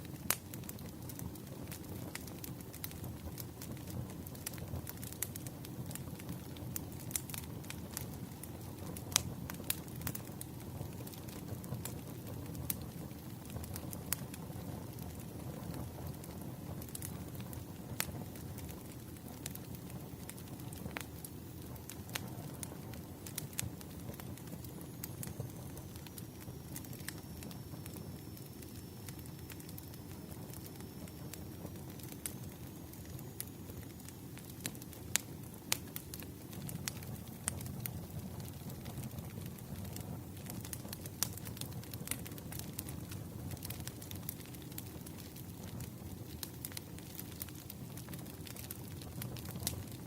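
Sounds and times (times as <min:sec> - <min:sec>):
bonfire crackling: 0:00.0 - 0:50.0
low rumble of flames: 0:00.0 - 0:50.0.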